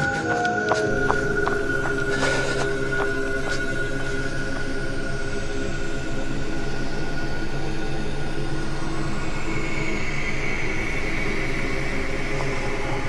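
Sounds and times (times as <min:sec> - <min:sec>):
sustained drone tones: 0:00.0 - 0:13.0.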